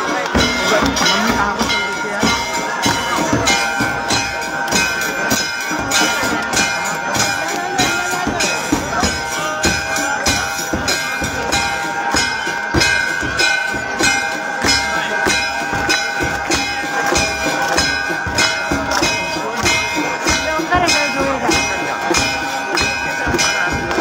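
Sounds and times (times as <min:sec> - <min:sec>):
metal bells ringing: 0:00.0 - 0:24.0.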